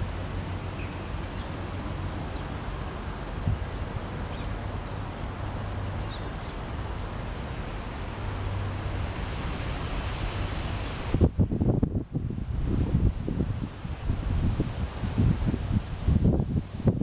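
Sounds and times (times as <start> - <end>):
wind on microphone: 0.0 - 6.3, 8.4 - 17.0.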